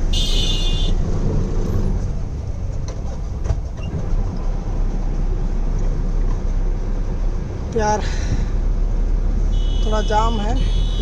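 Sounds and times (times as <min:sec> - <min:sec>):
road rumble: 0:00.0 - 0:11.0
truck engine drone: 0:00.0 - 0:11.0.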